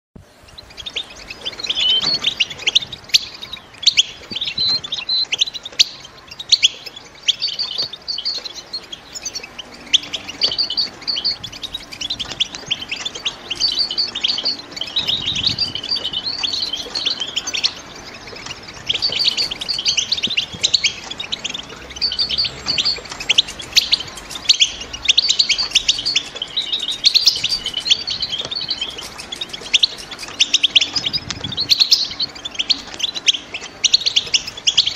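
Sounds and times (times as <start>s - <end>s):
finches chattering: 0.3s - 34.9s.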